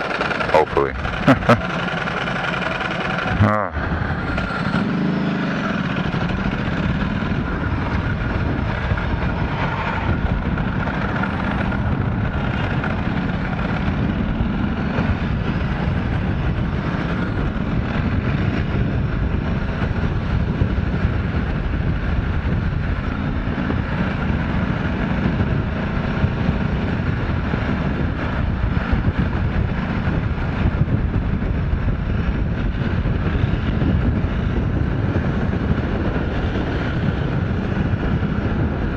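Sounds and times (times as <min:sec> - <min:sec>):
motorcycle engine running: 0:00.0 - 0:38.9
wind rush over helmet: 0:00.0 - 0:38.9.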